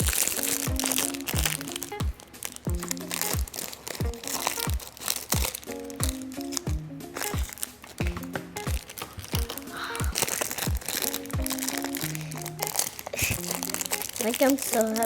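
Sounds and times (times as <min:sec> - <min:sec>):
background music with kick drum: 0:00.0 - 0:14.2
plastic packaging crinkling: 0:00.0 - 0:15.0.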